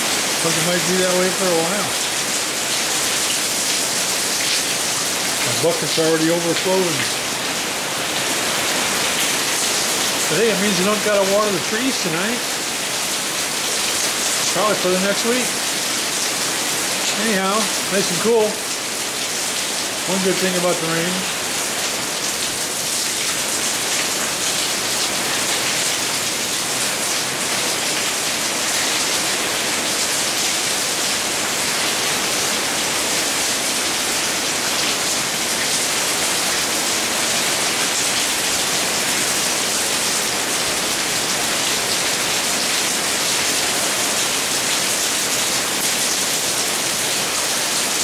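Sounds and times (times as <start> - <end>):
heavy rain hissing: 0.0 - 48.0.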